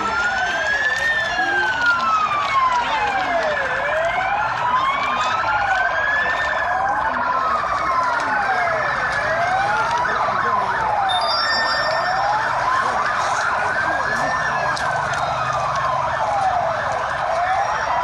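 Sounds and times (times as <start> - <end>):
emergency sirens wailing: 0.0 - 18.0.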